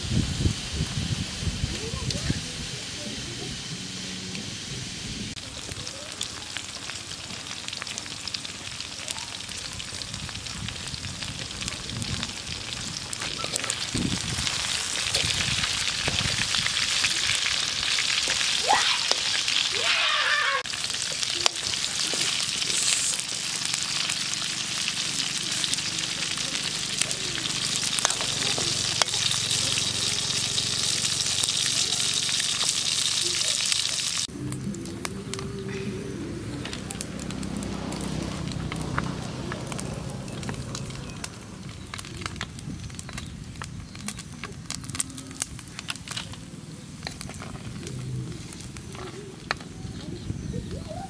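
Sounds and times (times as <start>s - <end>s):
food sizzling in hot oil: 0.0s - 35.4s, 36.7s - 51.0s.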